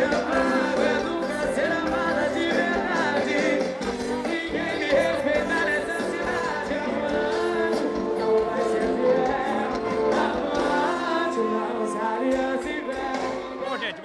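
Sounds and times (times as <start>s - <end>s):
lead singer singing: 0.0s - 13.8s
live band playing: 0.0s - 14.0s.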